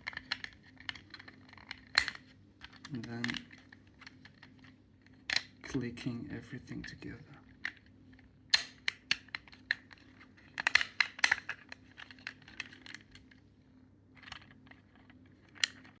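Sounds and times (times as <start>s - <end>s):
plastic parts clicking and snapping: 0.0s - 5.8s, 6.8s - 13.4s, 14.2s - 16.0s.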